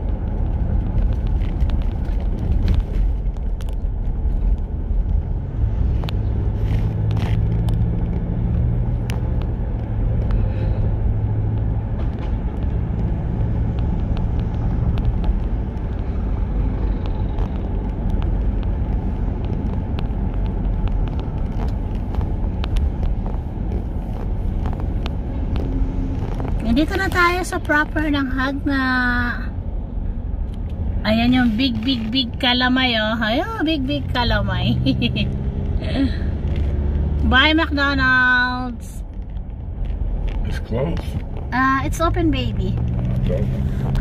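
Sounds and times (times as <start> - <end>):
vehicle engine and road rumble: 0.0 - 44.0.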